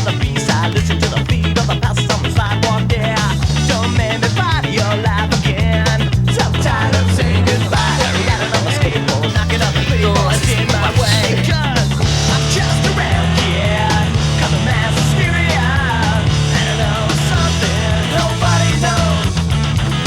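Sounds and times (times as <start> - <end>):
punk rock music with vocals: 0.0 - 20.0.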